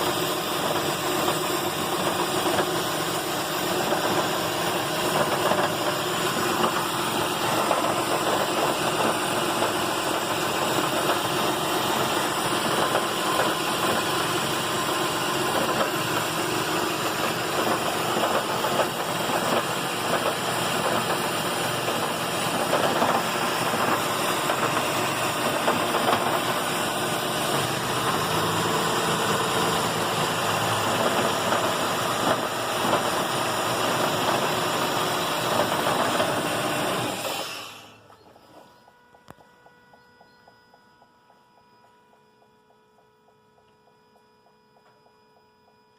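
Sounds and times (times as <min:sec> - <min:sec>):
car engine idling with rattle: 0:00.0 - 0:45.9.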